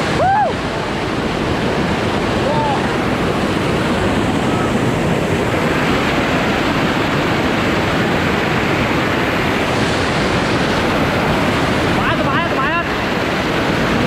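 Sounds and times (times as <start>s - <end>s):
wind and road noise in vehicle: 0.0s - 14.0s.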